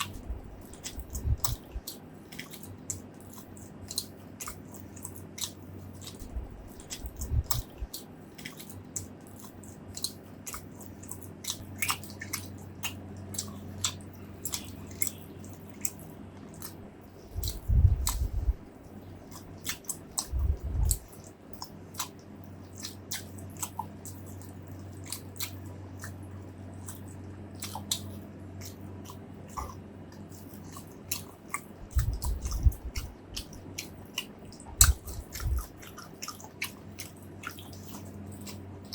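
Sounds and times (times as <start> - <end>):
person chewing: 0.0 - 38.9
wet mouth clicks and smacks: 0.0 - 38.9.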